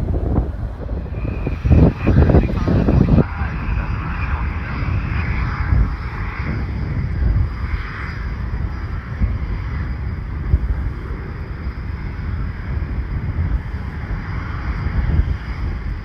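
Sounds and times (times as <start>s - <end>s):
jet engine rushing: 0.0s - 16.0s
wind buffeting the microphone: 0.0s - 16.0s.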